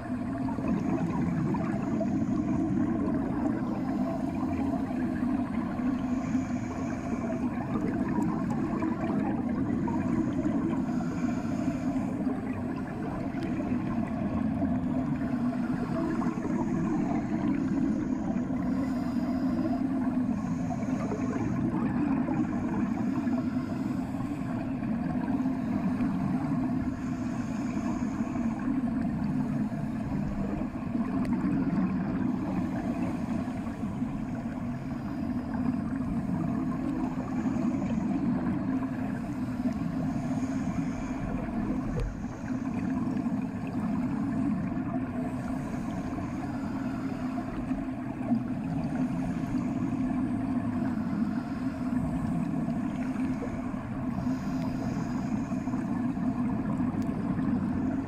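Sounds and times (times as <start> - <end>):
muffled underwater rumble: 0.0 - 58.0.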